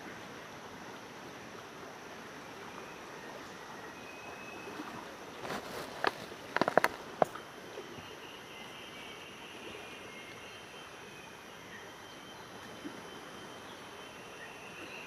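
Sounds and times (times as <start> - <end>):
high insect drone: 0.0 - 15.0
outdoor background noise: 0.0 - 15.0.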